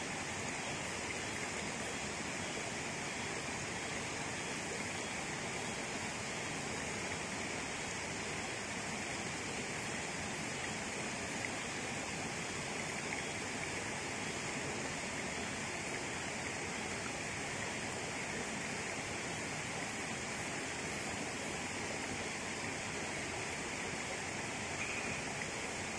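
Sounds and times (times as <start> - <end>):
stream running over rocks: 0.0 - 25.9.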